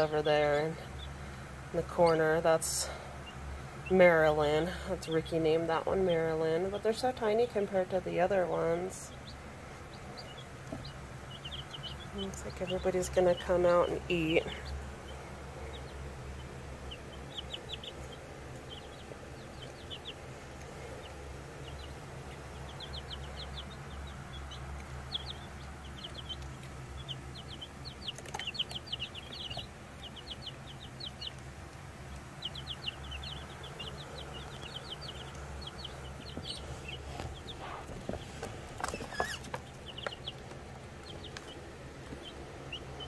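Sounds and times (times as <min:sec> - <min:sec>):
chicks peeping: 0:00.0 - 0:43.0
steady low hum: 0:00.0 - 0:43.0.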